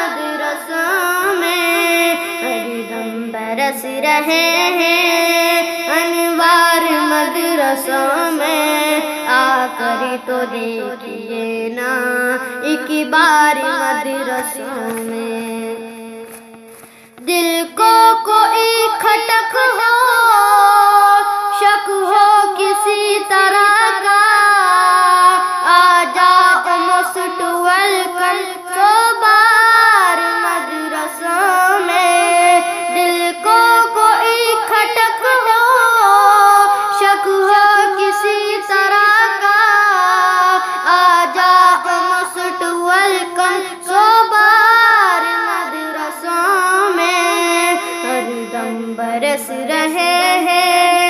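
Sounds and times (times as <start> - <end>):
high voice singing devotional song: 0.0 - 51.0.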